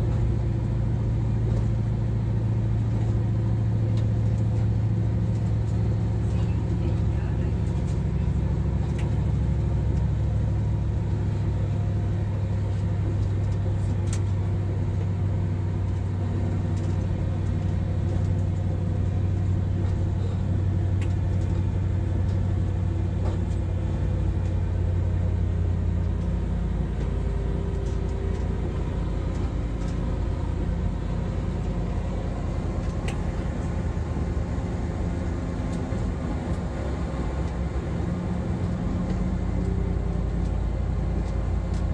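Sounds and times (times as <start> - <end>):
low hum: 0.0 - 41.9
train rumbling: 0.0 - 41.9.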